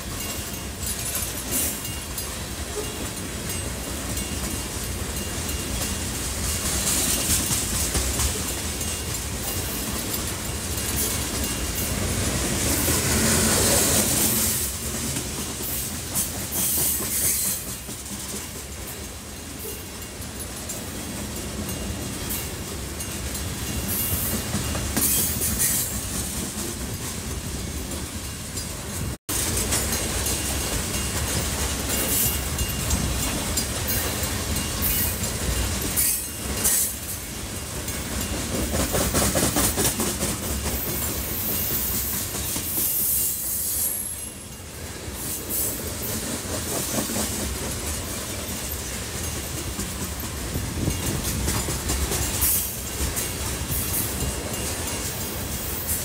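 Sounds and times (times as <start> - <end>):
train wheels clacking over rail joints: 0.0 - 19.7, 23.3 - 44.2, 45.2 - 56.0.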